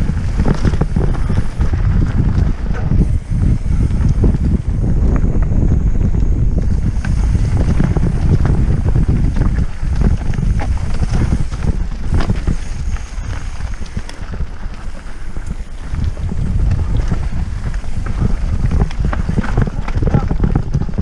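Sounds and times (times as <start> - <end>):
bike clicks and knocks: 0.0 - 21.0
wind buffeting microphone: 0.0 - 21.0.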